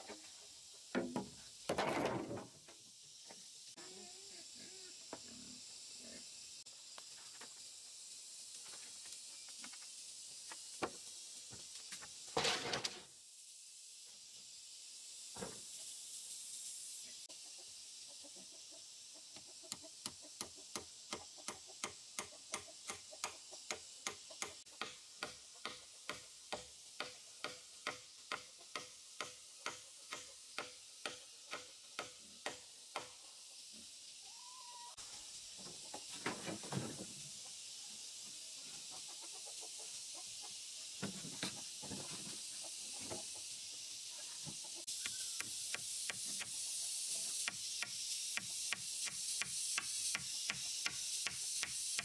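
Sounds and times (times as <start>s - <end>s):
steady high hiss: 0.0s - 52.0s.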